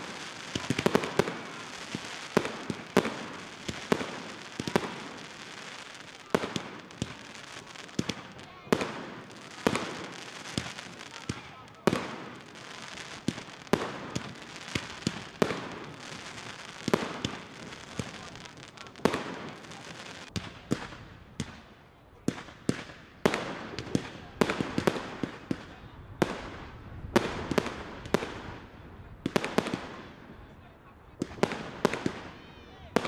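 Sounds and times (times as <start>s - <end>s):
fireworks bangs: 0.0s - 33.0s
fireworks crackling: 0.0s - 33.0s.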